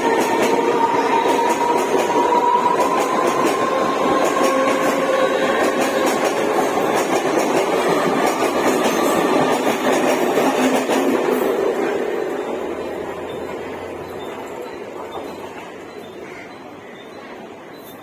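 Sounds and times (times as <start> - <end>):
train rumbling on tracks: 0.0 - 18.0.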